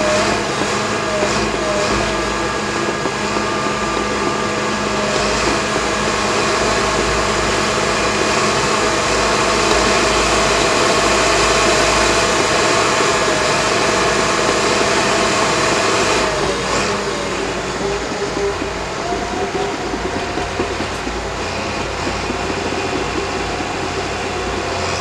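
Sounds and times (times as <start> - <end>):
clatter of moving tracks: 0.0 - 25.0
diesel engine under load: 0.0 - 25.0
steady whine: 0.0 - 25.0.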